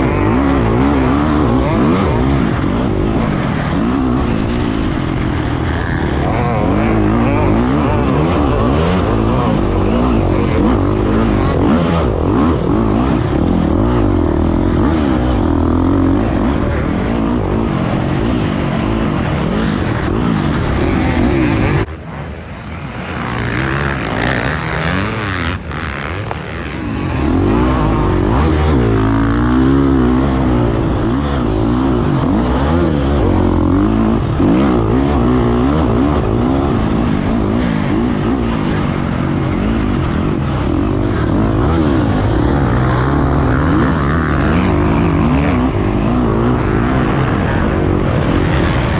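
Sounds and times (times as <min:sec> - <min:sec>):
dirt bike engine revving: 0:00.0 - 0:48.9
wind rushing on helmet: 0:00.0 - 0:48.9.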